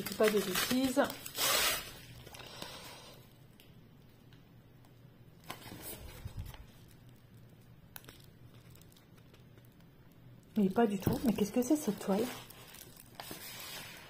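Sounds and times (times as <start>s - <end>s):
plastic sleeve rustling: 0.0s - 3.0s, 5.4s - 14.0s.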